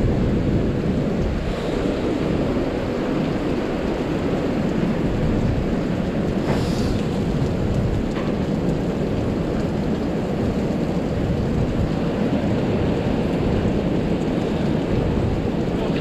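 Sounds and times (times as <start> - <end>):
falling rain: 0.0 - 16.0
wind buffeting microphone: 0.0 - 16.0.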